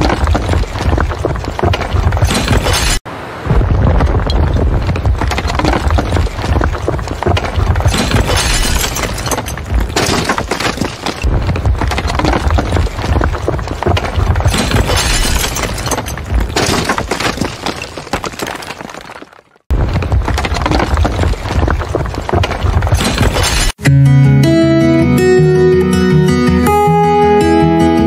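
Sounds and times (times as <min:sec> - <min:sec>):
debris crashing and crumbling: 0:00.0 - 0:23.8.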